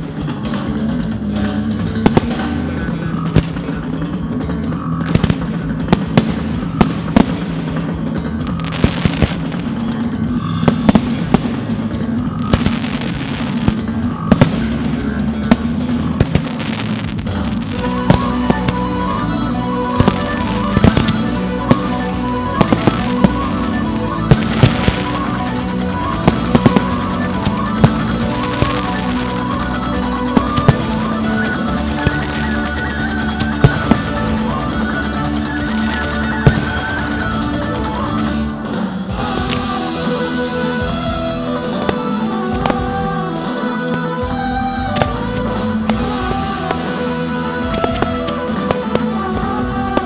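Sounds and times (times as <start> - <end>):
fireworks bursting with bangs: 0.0 - 50.0
music: 0.0 - 50.0.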